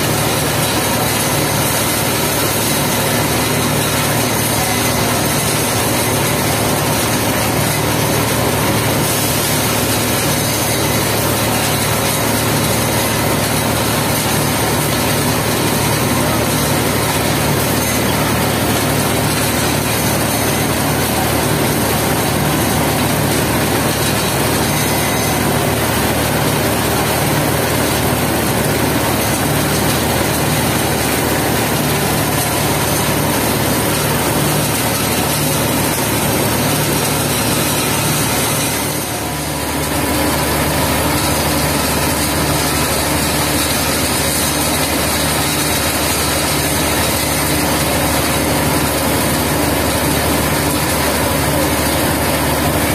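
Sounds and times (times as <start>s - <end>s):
plant machinery droning: 0.0s - 52.9s.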